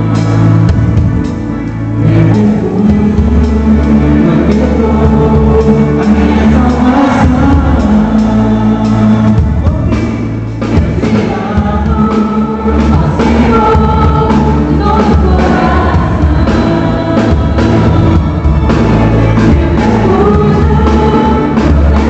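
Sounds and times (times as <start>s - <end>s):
bass: 0.0s - 22.0s
singers singing: 0.0s - 22.0s
steady drum beat: 0.0s - 22.0s.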